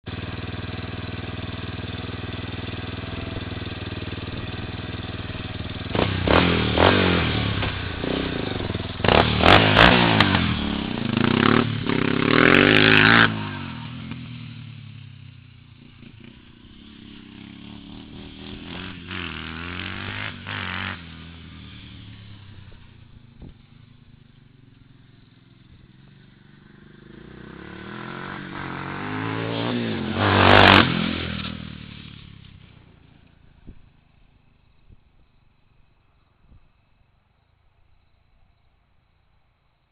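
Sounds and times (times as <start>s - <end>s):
atv engine idling and revving: 0.0s - 36.2s.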